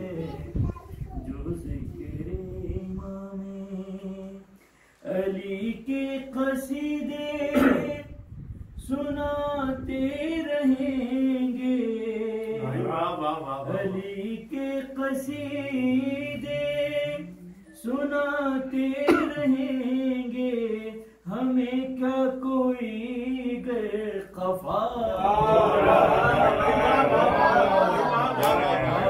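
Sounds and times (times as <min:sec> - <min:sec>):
man singing unaccompanied: 0:00.0 - 0:00.6, 0:01.3 - 0:08.2, 0:08.8 - 0:27.0.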